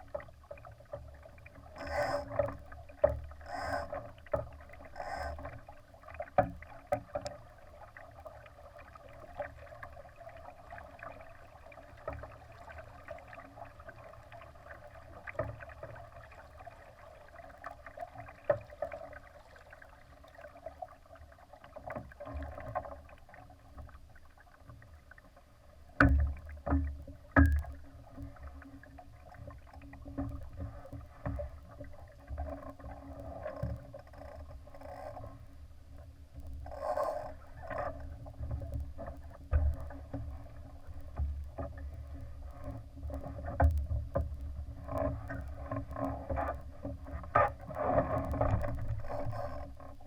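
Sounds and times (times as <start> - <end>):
water splashing against hull: 0.0 - 50.0.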